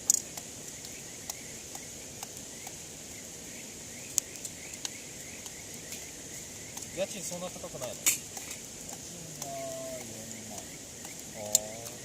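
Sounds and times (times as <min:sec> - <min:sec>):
campfire crackling and popping: 0:00.0 - 0:12.0
faint chirps: 0:00.0 - 0:12.0
steady high hiss: 0:00.0 - 0:12.0.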